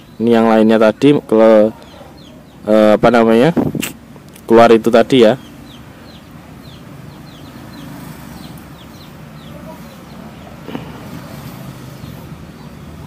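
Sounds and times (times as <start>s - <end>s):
birds peeping: 0.0s - 13.0s.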